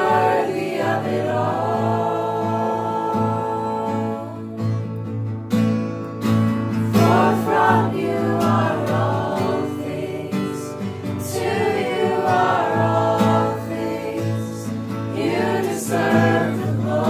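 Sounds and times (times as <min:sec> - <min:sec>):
voices singing worship music: 0:00.0 - 0:05.2, 0:06.7 - 0:17.0.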